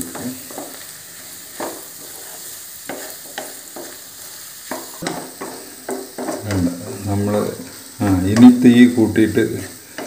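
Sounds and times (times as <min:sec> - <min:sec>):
frying sizzle: 0:00.0 - 0:10.0
wooden spatula scraping pan: 0:00.0 - 0:10.0.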